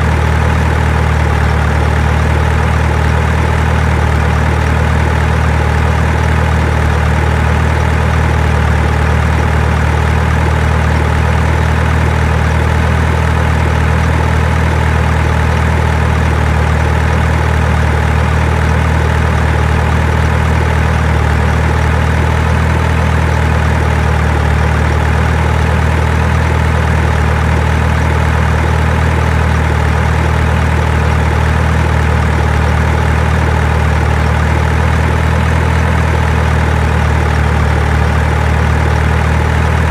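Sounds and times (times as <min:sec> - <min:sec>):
low engine-like drone: 0:00.0 - 0:39.9.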